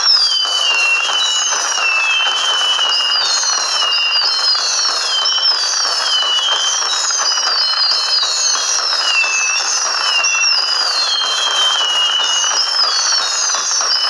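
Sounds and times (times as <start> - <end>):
firework whistles gliding down: 0.0 - 14.0.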